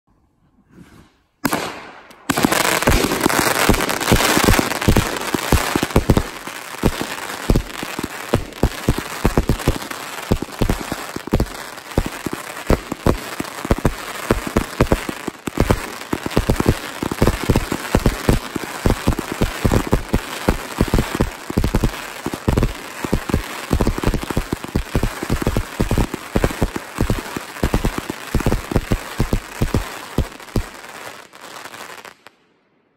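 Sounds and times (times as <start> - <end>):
firework barrage crackling: 1.4 - 32.4.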